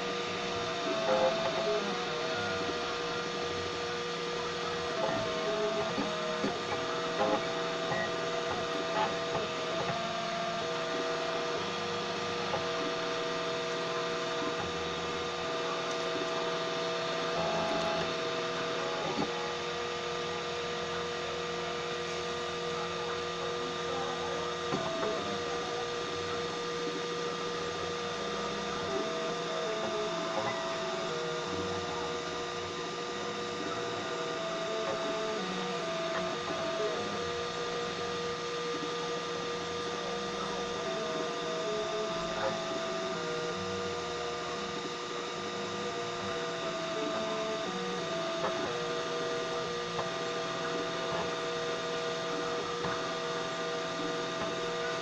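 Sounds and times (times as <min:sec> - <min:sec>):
steady hum: 0:00.0 - 0:55.0
stepper motors whining: 0:00.0 - 0:55.0.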